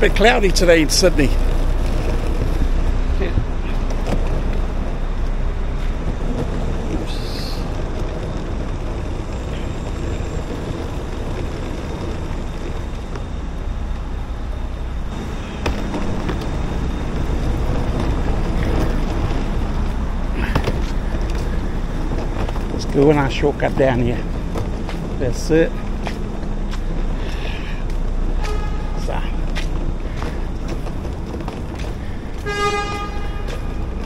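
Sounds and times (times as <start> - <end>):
bus passing: 0.0 - 34.0
vehicles passing: 0.0 - 34.0.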